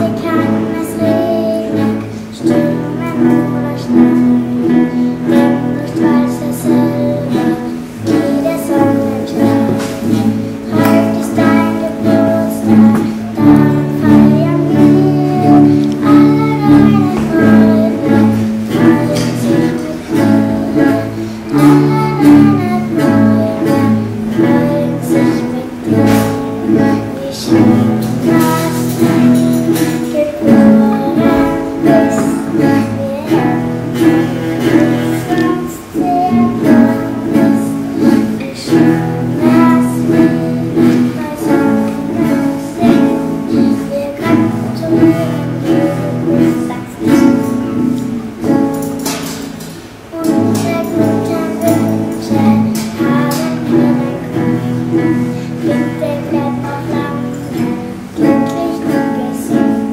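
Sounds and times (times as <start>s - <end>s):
acoustic guitars strummed: 0.0s - 59.9s
woman and girl singing: 0.0s - 59.9s.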